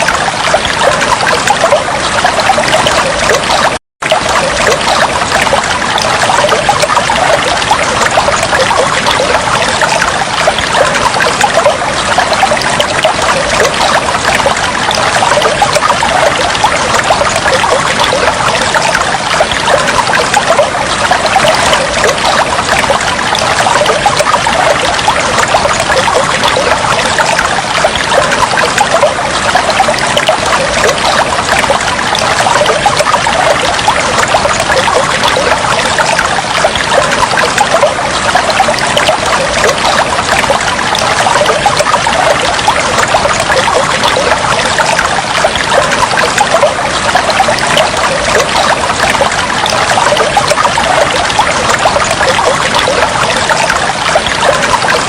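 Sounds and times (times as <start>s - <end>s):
flowing water trickling: 0.0s - 55.0s.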